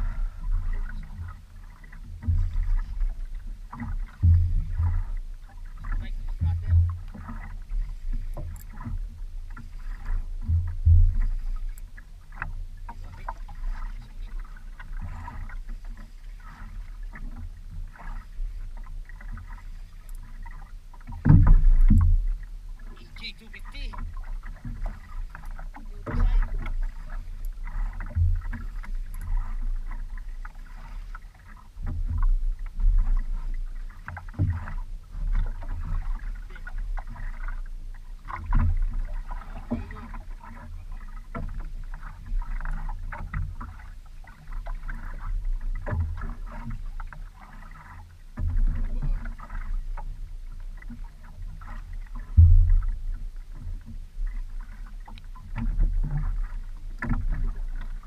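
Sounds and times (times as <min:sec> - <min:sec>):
water slapping against boat hull: 0:00.0 - 0:58.0.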